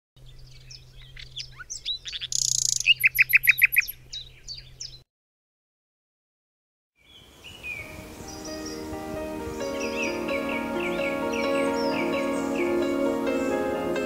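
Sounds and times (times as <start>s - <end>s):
songbird singing: 0.2s - 5.0s, 7.0s - 14.0s.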